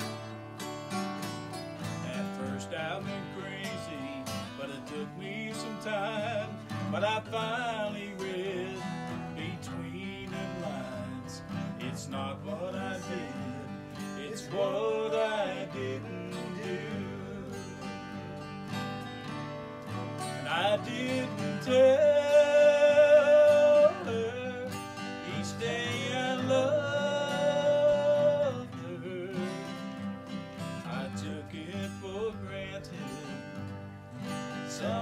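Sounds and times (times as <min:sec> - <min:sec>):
acoustic guitars playing: 0:00.0 - 0:35.0.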